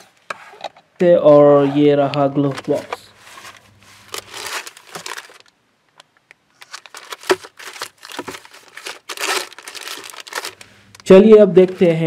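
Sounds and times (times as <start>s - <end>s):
plastic and papers crinkling: 2.3s - 12.0s.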